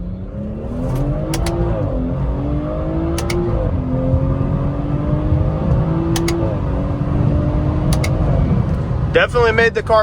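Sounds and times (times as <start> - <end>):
car engine accelerating hard: 0.0 - 9.3.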